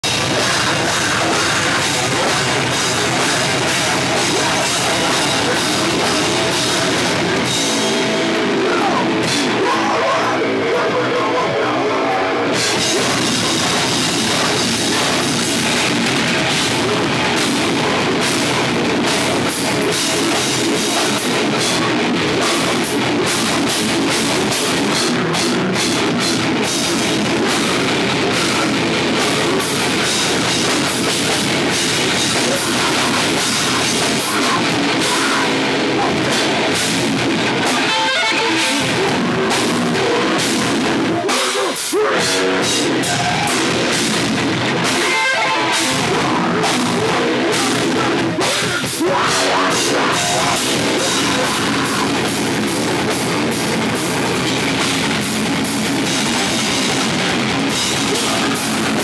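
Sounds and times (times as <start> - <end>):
distorted electric guitars: 0.0 - 59.0
drum kit: 0.0 - 59.0.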